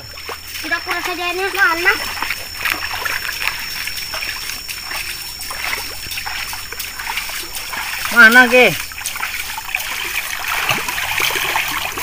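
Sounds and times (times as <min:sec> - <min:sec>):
water trickling: 0:00.0 - 0:12.0
hands splashing in water: 0:00.2 - 0:12.0.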